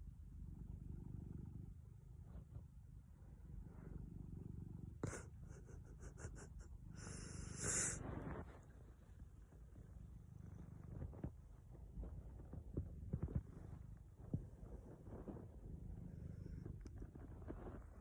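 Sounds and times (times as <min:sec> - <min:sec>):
cat snoring: 0:00.0 - 0:02.4, 0:03.3 - 0:08.8, 0:10.2 - 0:11.4, 0:12.1 - 0:18.0.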